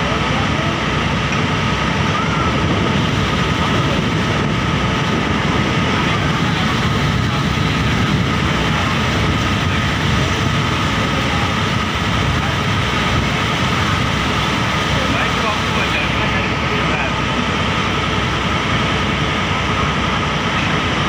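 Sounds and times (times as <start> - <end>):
faint steady whine: 0.0 - 21.0
ferry engine drone: 0.0 - 21.0.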